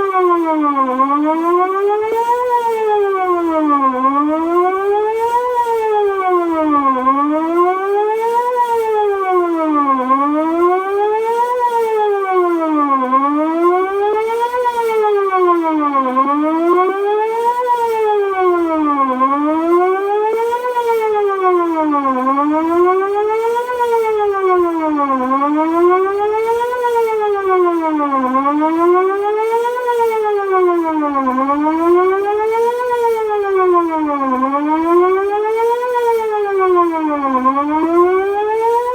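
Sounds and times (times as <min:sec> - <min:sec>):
outdoor warning siren wailing: 0:00.0 - 0:38.9.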